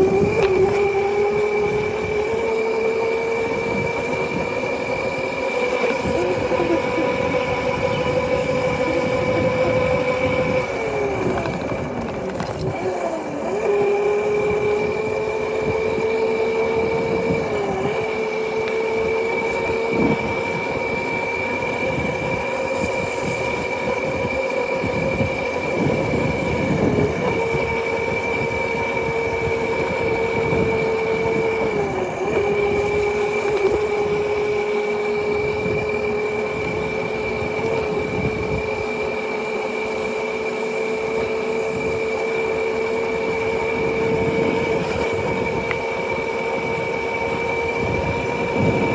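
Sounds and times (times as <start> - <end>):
motorcycle engine whine: 0.0 - 48.9
wind and road rumble: 0.0 - 48.9.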